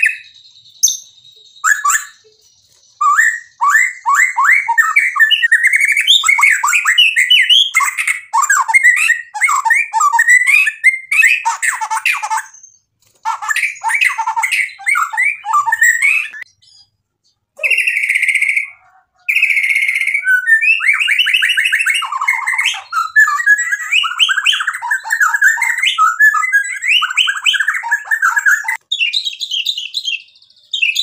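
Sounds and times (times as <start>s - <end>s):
songbird singing varied song: 0.0s - 31.0s.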